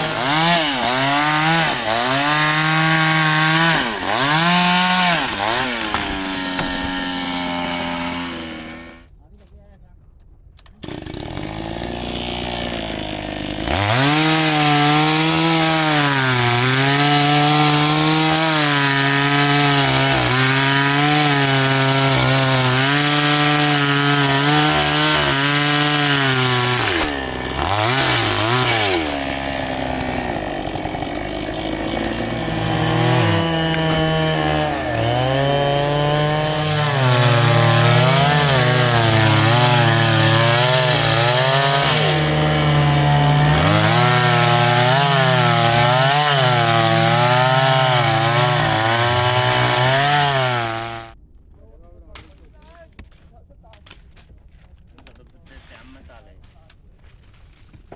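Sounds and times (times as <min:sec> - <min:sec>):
chainsaw cutting wood: 0:00.0 - 0:09.1, 0:10.7 - 0:51.2.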